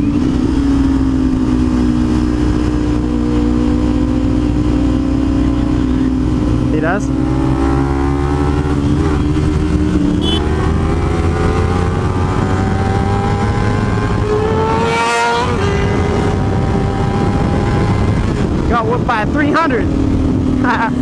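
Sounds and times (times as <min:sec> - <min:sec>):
motorcycle engine at full throttle: 0:00.0 - 0:21.0
rumbling wind noise: 0:00.0 - 0:21.0.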